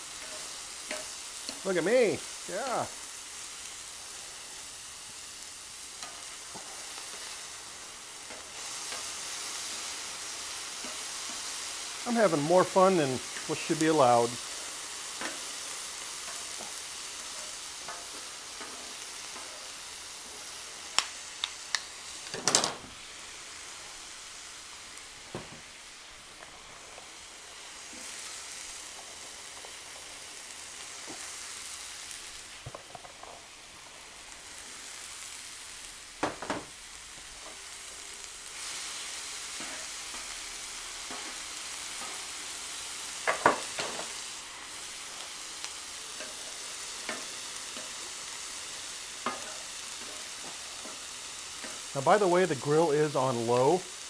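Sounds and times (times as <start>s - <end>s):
meat and vegetables sizzling: 0.0s - 54.0s.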